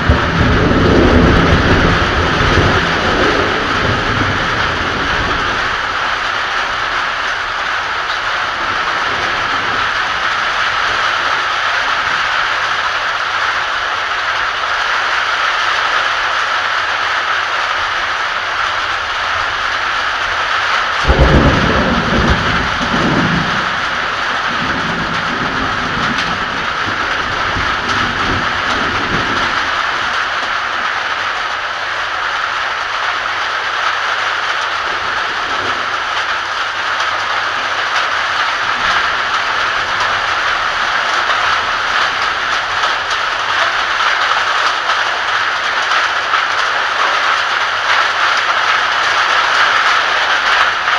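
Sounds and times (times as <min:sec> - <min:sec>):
heavy rain: 0:00.0 - 0:50.9
thunder clap and rumble: 0:00.0 - 0:50.9.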